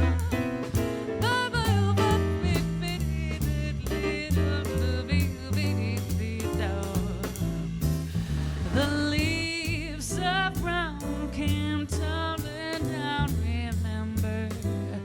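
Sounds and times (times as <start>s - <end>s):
live swing jazz band: 0.0s - 15.0s.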